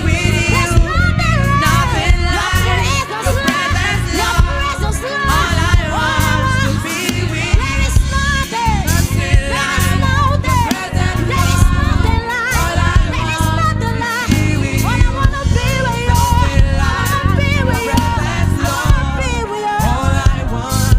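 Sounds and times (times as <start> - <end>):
bass line: 0.0 - 20.9
drums: 0.0 - 20.9.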